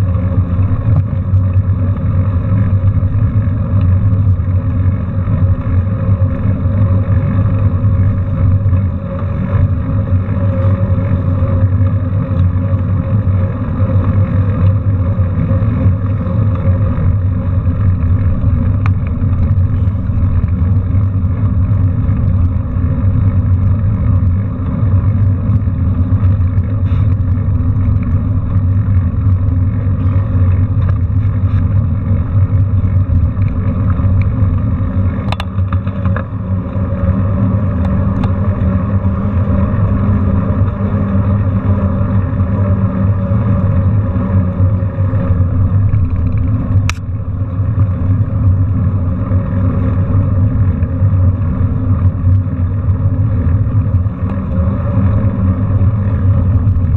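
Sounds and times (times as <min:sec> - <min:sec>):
bicycle tyres rolling on asphalt: 0:00.0 - 0:56.9
wind buffeting camera: 0:00.0 - 0:56.9.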